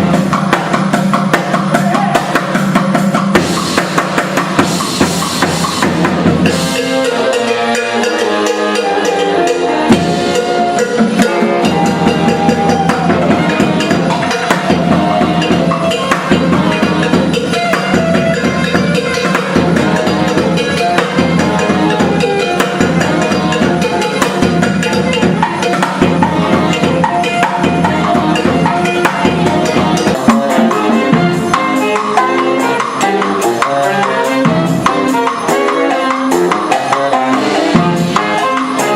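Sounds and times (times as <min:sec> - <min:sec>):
bass line: 0:00.0 - 0:38.9
drum beat: 0:00.0 - 0:38.9
live band playing up-tempo music: 0:00.0 - 0:38.9
sliding melody notes: 0:04.6 - 0:38.9.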